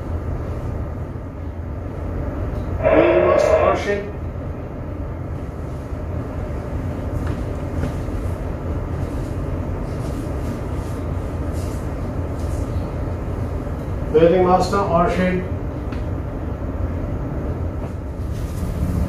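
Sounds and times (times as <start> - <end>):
ship machinery rumbling: 0.0 - 19.0.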